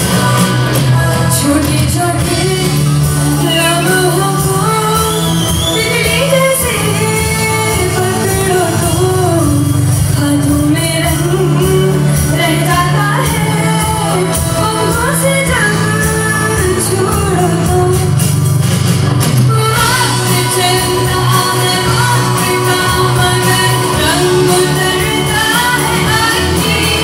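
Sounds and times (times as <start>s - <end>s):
woman singing: 0.0s - 18.3s, 19.5s - 27.0s
band accompaniment: 0.0s - 27.0s
low bass notes: 0.0s - 27.0s.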